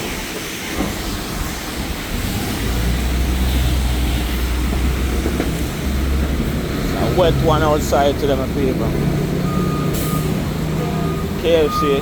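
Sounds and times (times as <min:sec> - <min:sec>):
heavy vehicle engine rumbling: 0:00.0 - 0:12.0
traffic hiss on wet street: 0:00.0 - 0:12.0.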